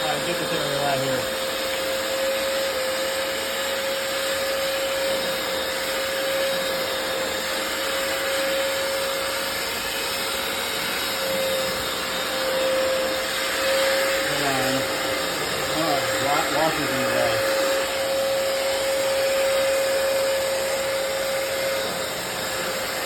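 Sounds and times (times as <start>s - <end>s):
floor cleaner motor whine: 0.0s - 23.0s.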